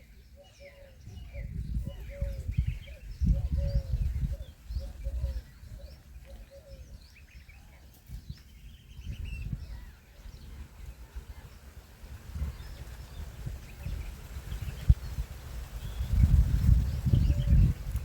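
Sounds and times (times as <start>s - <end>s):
birds chirping: 0.0s - 18.0s
low rumble on microphone: 0.8s - 18.0s.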